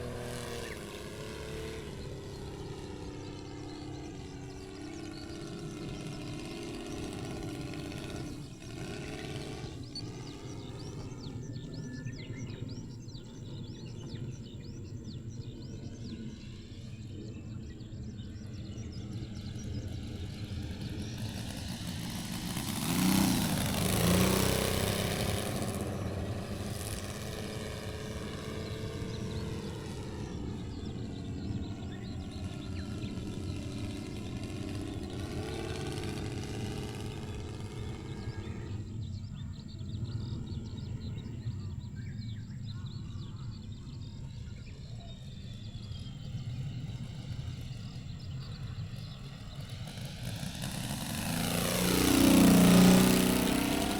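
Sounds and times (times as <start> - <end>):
radial engine of model plane flying: 0.0 - 53.9.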